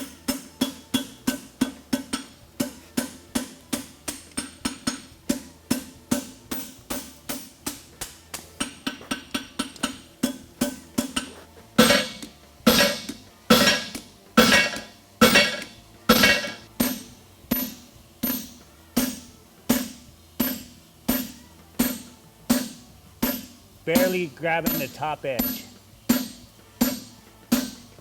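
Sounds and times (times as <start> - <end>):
hammer striking steel on anvil: 0.0 - 28.0.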